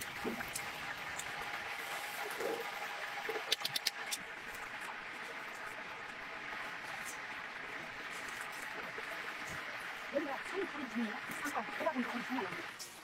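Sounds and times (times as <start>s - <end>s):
oil sizzling in deep fryer: 0.0s - 13.0s.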